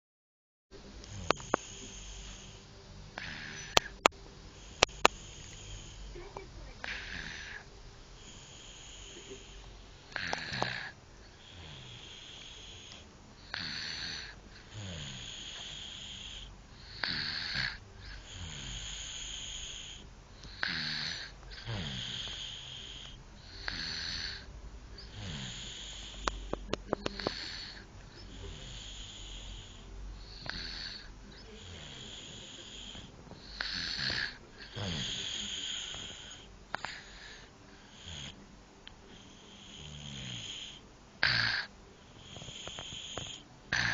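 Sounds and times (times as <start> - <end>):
person snoring: 0.9 - 38.4, 39.0 - 43.9.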